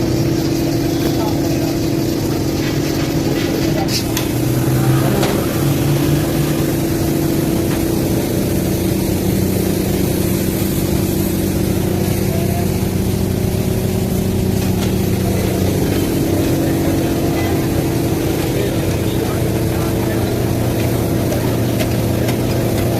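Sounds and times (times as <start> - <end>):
motor running with low drone: 0.0 - 22.9.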